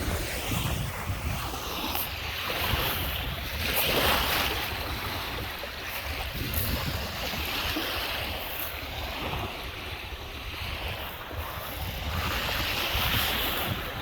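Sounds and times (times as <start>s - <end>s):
waves washing onto shore: 0.0s - 14.0s
wind buffeting microphone: 0.0s - 14.0s.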